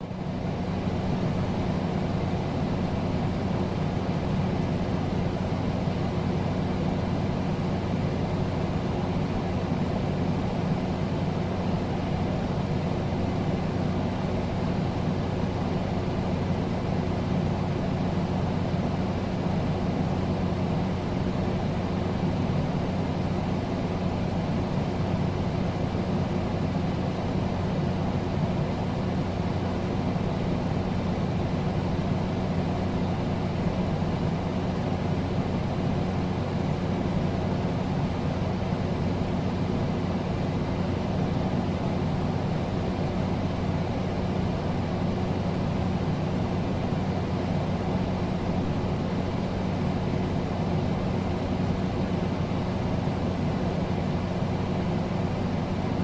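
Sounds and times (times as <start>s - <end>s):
air conditioner running: 0.0s - 56.0s.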